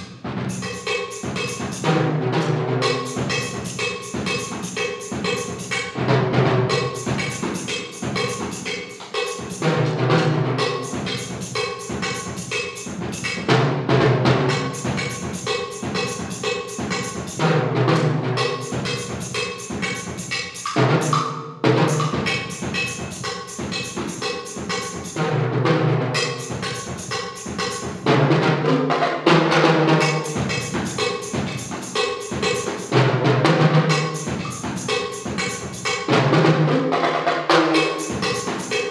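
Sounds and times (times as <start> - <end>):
drums and cymbal playing: 0.0 - 38.9.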